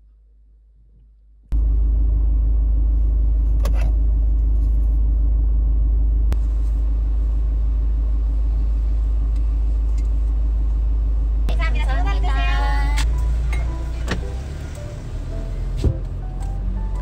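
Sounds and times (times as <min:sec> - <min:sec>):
car cabin rumble: 0:00.7 - 0:17.0.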